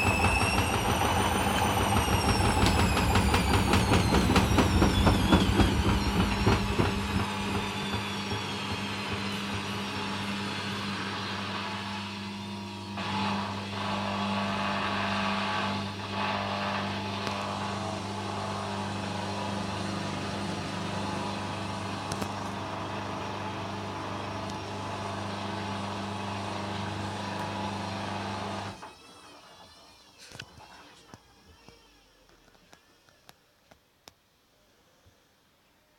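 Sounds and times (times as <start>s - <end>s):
spinning drum whirr: 0.0s - 29.0s
washing machine motor hum: 0.0s - 29.9s.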